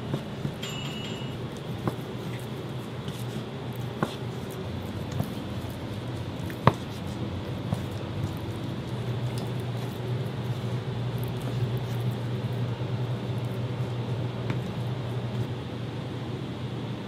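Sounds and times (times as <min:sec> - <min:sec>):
kitchen machinery humming: 0:00.0 - 0:17.0.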